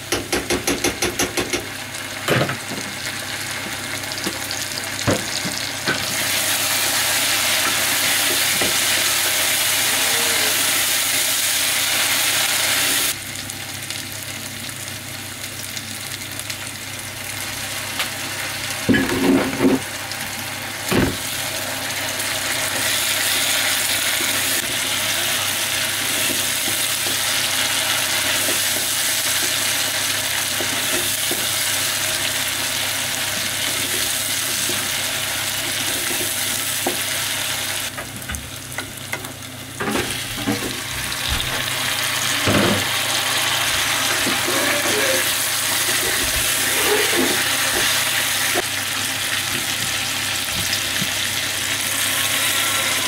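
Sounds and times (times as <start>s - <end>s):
food sizzling in a pot: 0.0s - 53.0s.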